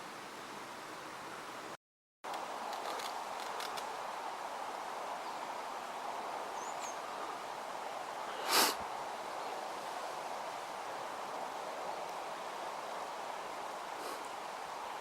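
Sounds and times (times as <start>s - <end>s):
outdoor rustling: 0.0s - 15.0s.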